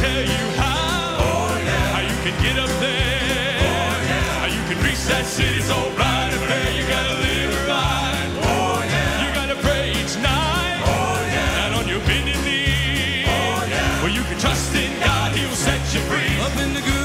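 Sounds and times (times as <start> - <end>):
instrumental backing with bass line: 0.0 - 17.0
male vocal quartet singing in harmony: 0.0 - 17.0.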